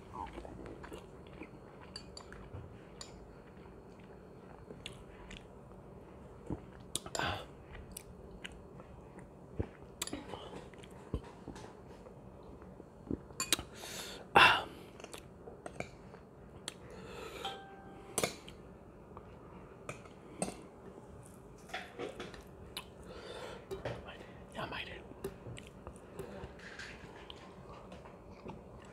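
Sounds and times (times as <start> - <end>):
person chewing food: 0.0 - 13.8, 14.7 - 24.0, 25.2 - 28.9.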